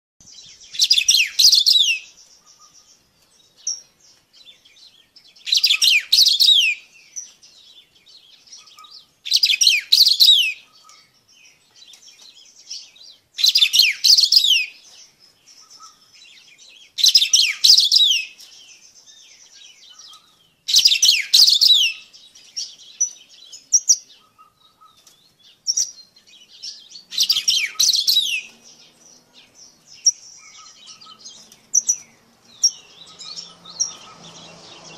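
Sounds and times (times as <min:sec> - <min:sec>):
bird singing downward-sliding notes: 0:00.2 - 0:34.9.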